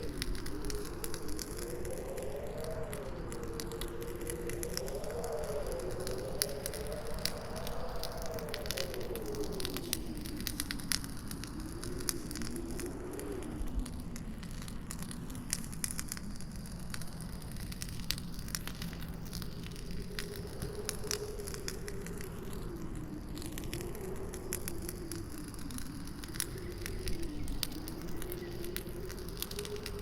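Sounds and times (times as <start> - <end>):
campfire crackling and popping: 0.0 - 30.0
howling wind: 0.0 - 30.0.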